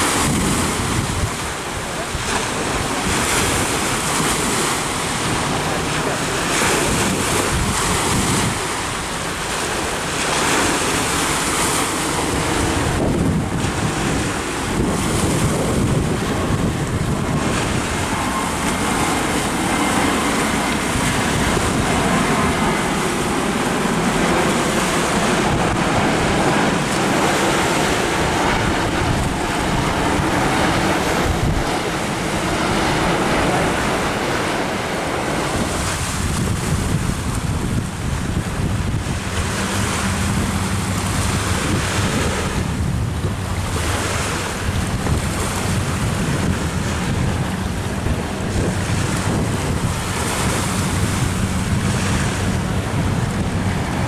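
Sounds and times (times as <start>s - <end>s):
waves washing on a beach: 0.0s - 54.0s
wind buffeting microphone: 0.0s - 54.0s.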